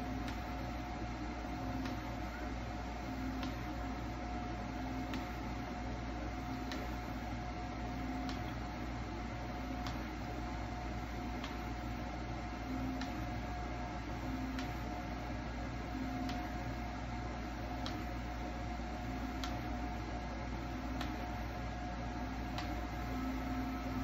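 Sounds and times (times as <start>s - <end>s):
printer humming: 0.0s - 24.0s.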